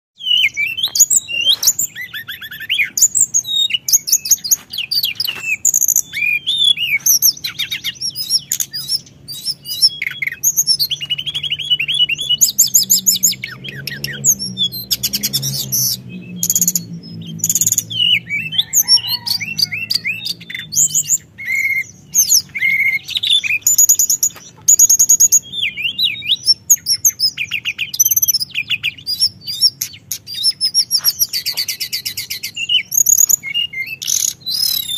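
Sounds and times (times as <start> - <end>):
songbird trilling and chirping: 0.2 - 34.9.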